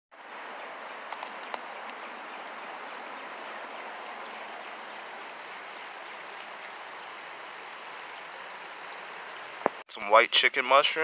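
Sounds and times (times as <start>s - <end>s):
creek water running: 0.1s - 11.0s.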